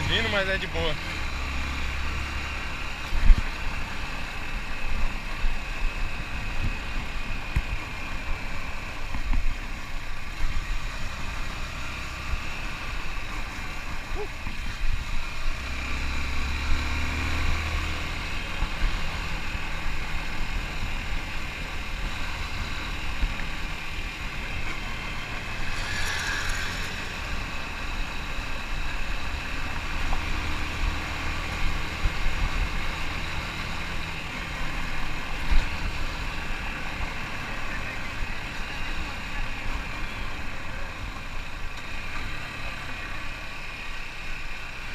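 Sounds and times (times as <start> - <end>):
motorcycle engine running: 0.0 - 44.9
wind and tyre noise: 0.0 - 44.9.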